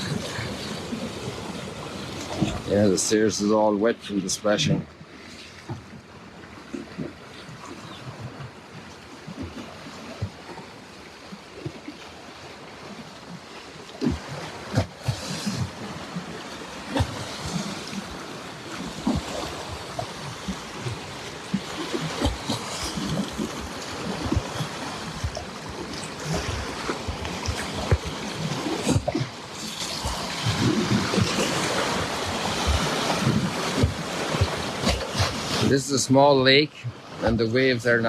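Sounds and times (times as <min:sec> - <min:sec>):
waves lapping against steps: 0:00.0 - 0:38.0.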